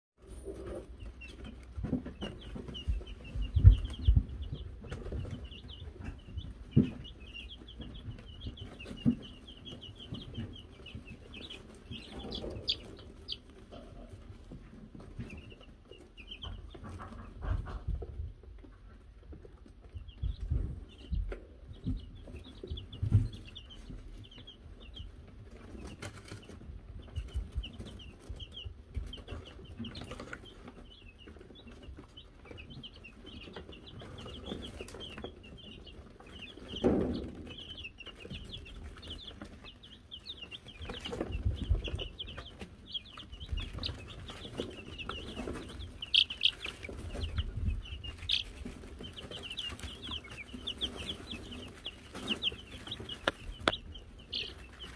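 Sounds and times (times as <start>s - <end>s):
chicks peeping: 0.2s - 54.9s.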